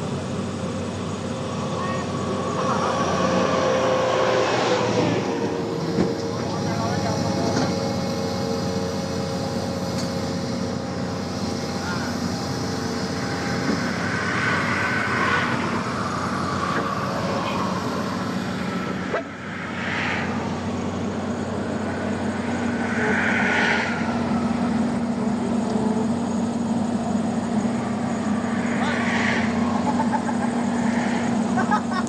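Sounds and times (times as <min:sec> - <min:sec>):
heavy vehicle engine humming: 0:00.0 - 0:32.0.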